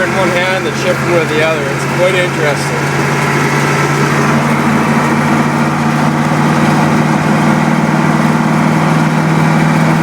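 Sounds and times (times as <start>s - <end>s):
diesel truck engine drone: 0.0s - 10.0s.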